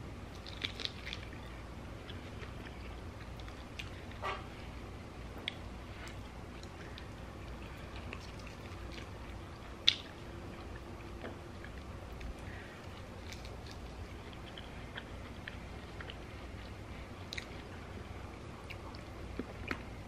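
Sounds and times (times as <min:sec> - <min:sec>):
mouth clicks and smacks: 0:00.3 - 0:04.4, 0:05.4 - 0:17.7
person chewing chicken wing: 0:00.3 - 0:04.5, 0:05.4 - 0:19.9.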